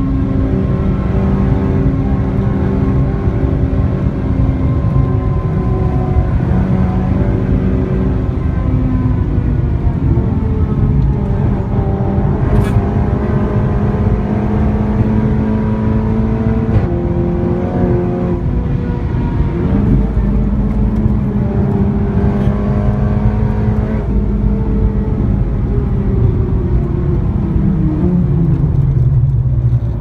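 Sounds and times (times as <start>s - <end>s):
car engine accelerating: 0.0s - 30.0s
road and wind rumble: 0.0s - 30.0s.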